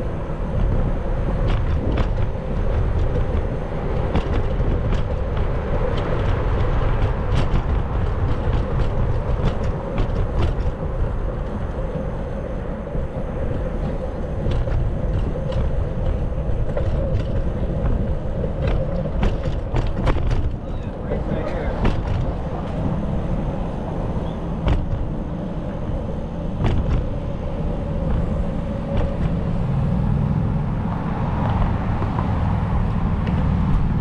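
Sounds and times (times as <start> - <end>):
bicycle rumbling over pavement: 0.0 - 34.0.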